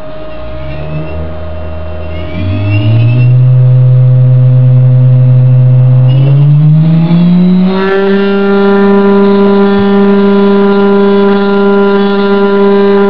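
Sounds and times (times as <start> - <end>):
spindle motor whine: 0.0 - 13.0.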